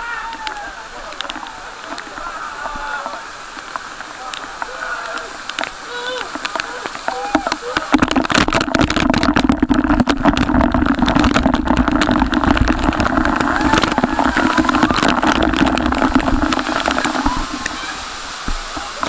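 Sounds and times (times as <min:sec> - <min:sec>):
short crackles: 0:00.3 - 0:19.0.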